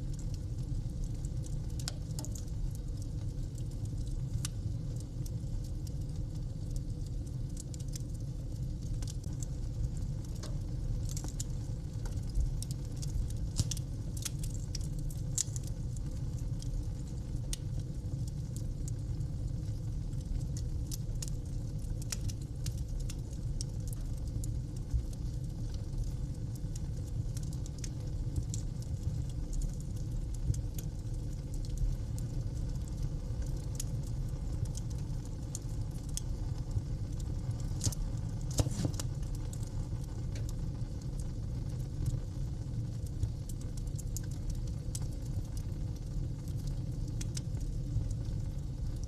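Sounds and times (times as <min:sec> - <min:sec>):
fire crackling and popping: 0:00.0 - 0:49.0
low rumble of flames: 0:00.0 - 0:49.0.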